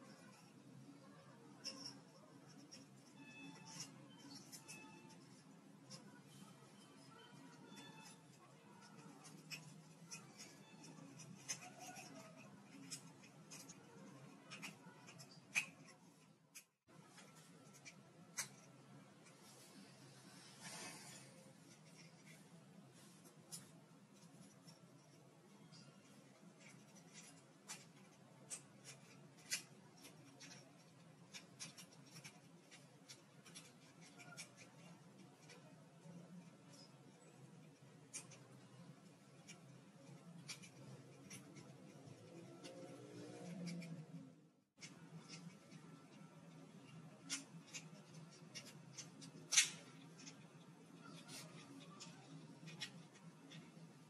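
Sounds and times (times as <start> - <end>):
plastic parts clicking and rubbing: 0.0 - 19.9, 20.7 - 54.0.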